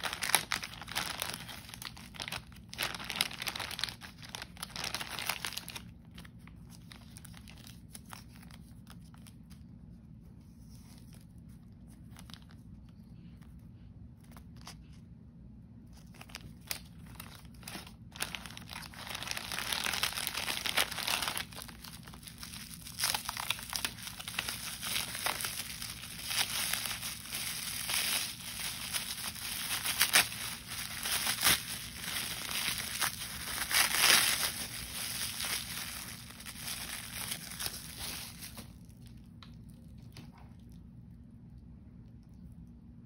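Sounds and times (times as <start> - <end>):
plastic bag and bubble wrap crinkling: 0.0 - 15.0, 15.8 - 40.8.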